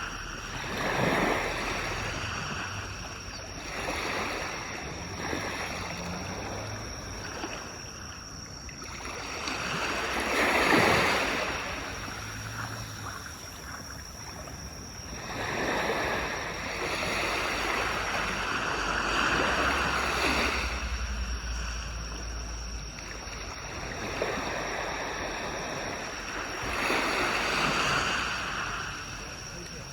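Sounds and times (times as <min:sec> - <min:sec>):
sea waves breaking on beach: 0:00.0 - 0:29.9.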